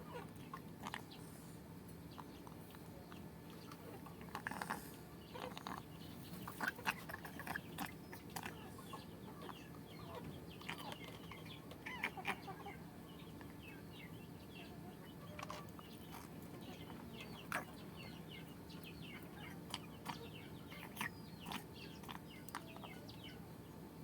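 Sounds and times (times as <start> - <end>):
chickens clucking: 0.0 - 23.6.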